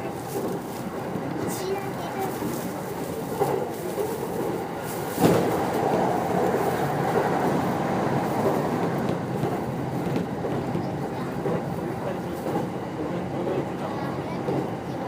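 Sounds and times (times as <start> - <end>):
electric train running at speed: 0.0 - 15.0
rail joint clacks: 0.0 - 15.0.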